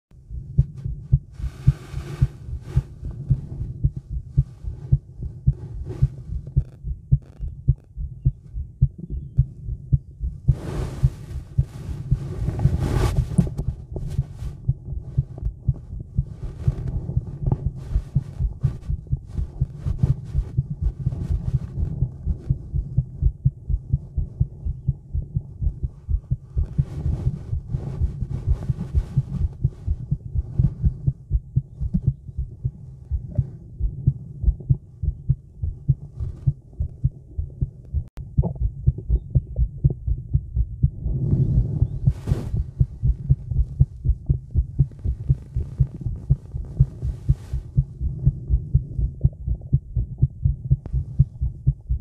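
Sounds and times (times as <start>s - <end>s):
microphone clicks and rustles: 0.1s - 40.1s, 40.8s - 52.0s
heartbeat thumps: 0.1s - 52.0s.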